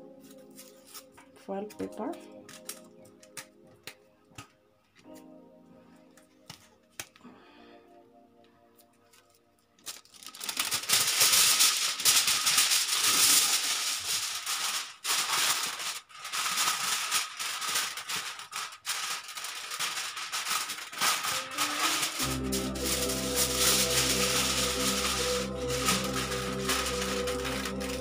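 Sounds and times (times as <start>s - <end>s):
aluminium foil crinkling: 0.2s - 5.3s, 9.0s - 28.0s.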